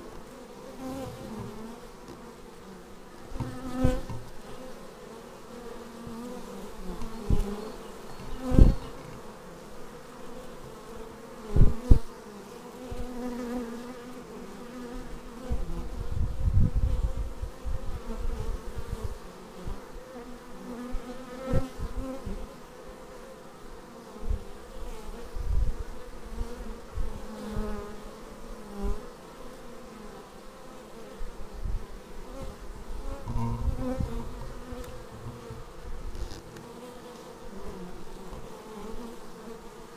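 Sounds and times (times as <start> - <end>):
bee flying close past: 0.0 - 39.9
honeybees buzzing: 0.0 - 39.9.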